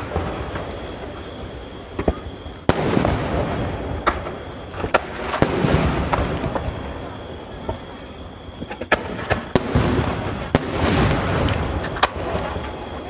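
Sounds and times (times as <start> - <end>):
firework shells booming: 0.0 - 13.0.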